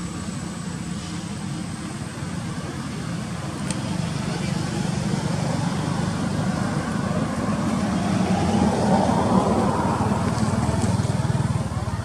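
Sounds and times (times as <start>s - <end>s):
engine low pulsing hum: 0.0s - 12.0s.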